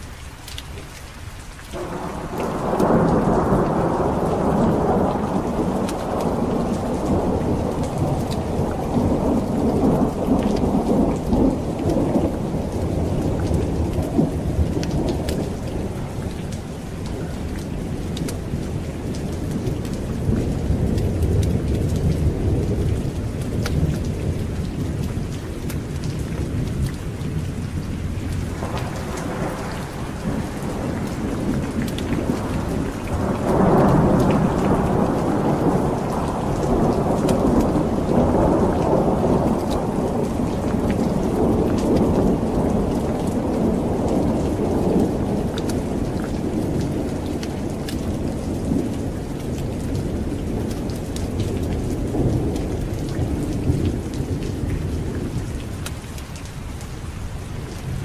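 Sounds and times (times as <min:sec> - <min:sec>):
heavy rain: 0:00.0 - 0:58.0
rolling thunder: 0:01.8 - 0:56.0.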